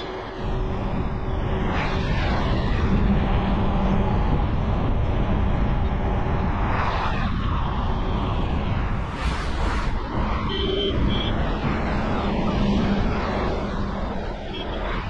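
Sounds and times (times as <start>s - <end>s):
highway road noise: 0.0s - 15.0s.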